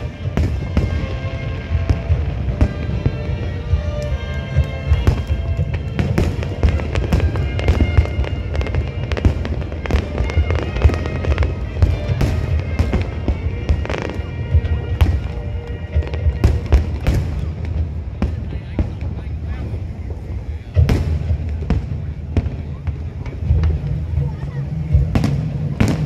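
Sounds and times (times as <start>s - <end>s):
deep rumble: 0.0s - 26.0s
fireworks bangs and crackles: 0.0s - 26.0s
music playing: 0.0s - 26.0s.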